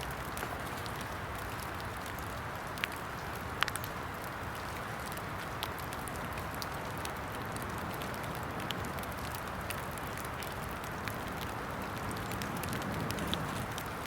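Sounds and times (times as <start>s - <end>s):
rain hiss: 0.0s - 14.0s
sharp ticks and crackles: 0.0s - 14.0s.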